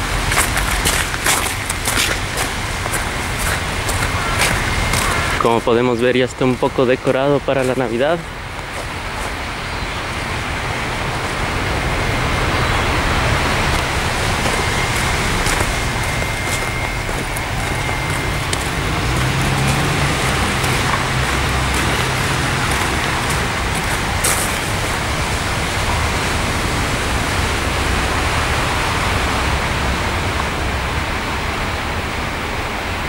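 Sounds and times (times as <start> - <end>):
city road traffic: 0.0 - 33.0
vehicle engine hum: 0.0 - 33.0.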